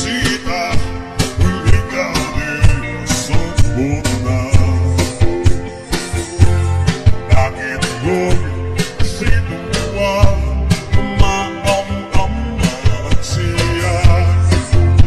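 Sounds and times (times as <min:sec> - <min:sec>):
guitar: 0:00.0 - 0:15.0
person singing: 0:00.0 - 0:15.0
steady drum beat: 0:00.0 - 0:15.0.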